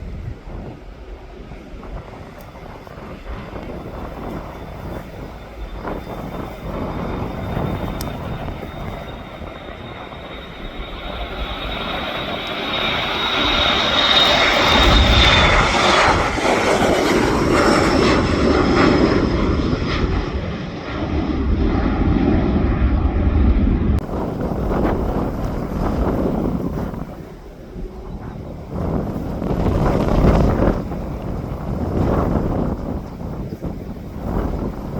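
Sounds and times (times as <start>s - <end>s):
airliner engines passing: 0.0s - 34.9s
wind buffeting microphone: 0.0s - 34.9s.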